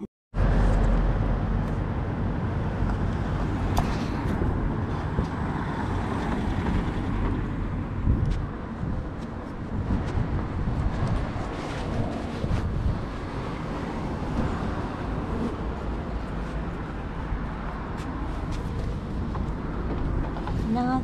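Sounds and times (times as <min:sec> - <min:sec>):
road traffic rumble: 0:00.4 - 0:21.0.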